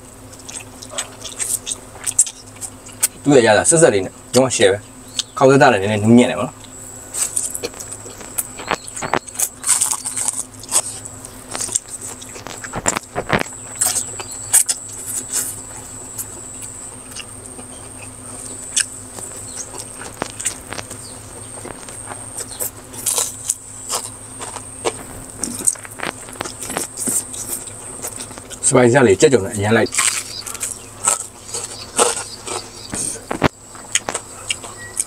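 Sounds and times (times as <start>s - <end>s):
chewing: 0.0s - 3.3s, 6.5s - 35.0s.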